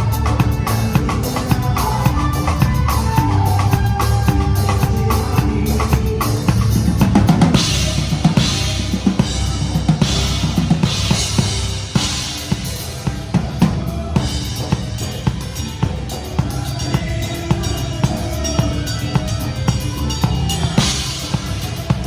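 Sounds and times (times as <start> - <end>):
cymbal crashes: 0.0 - 17.8
band music: 0.0 - 22.0
drum kit playing: 0.0 - 22.0.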